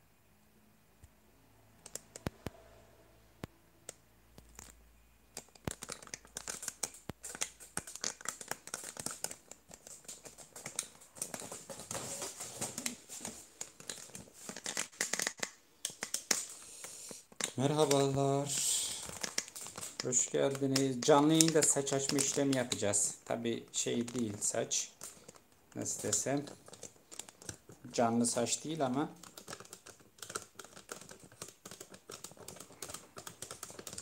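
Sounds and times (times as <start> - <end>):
clicks and taps: 1.8 - 2.6, 3.4 - 34.0
packaging crinkling and rustling: 5.4 - 34.0.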